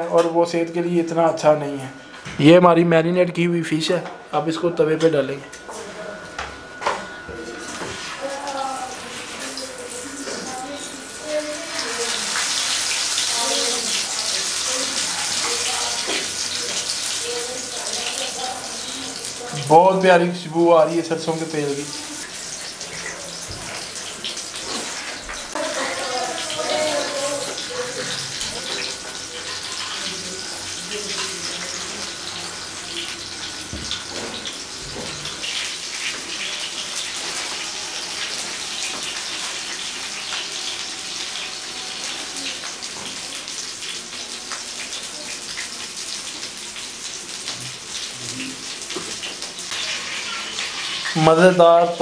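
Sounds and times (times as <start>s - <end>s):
fish sizzling in hot oil: 6.7s - 52.0s.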